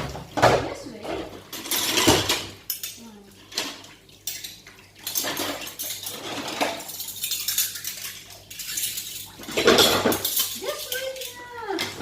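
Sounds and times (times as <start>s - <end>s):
plates and cutlery clinking: 0.0s - 12.0s.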